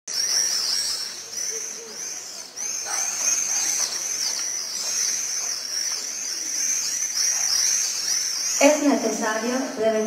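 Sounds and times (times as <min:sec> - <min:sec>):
birds chirping: 0:00.1 - 0:10.0.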